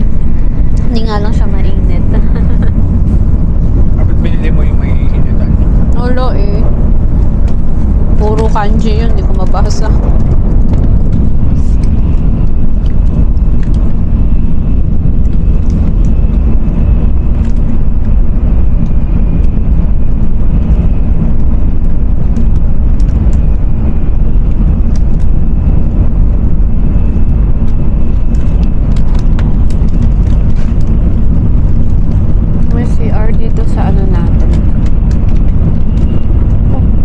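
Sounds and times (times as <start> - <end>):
faint high whine: 0.0 - 37.0
train low rumble: 0.0 - 37.0.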